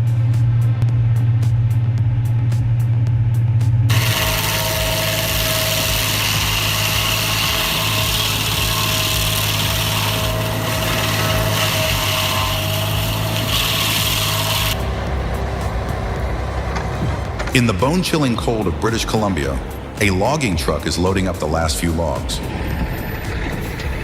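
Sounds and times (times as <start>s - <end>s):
machine engine running: 0.0s - 20.0s.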